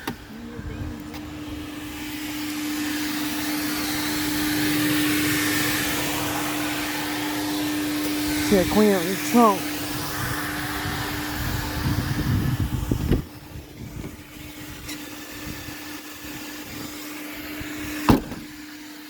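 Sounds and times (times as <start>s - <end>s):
vacuum motor humming: 0.0s - 19.0s
hose nozzle sucking noisily: 1.8s - 18.2s.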